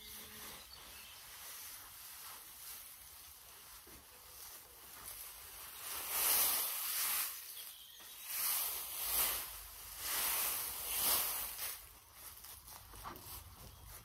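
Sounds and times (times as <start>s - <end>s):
straw rustling under a pitchfork: 0.0s - 14.0s.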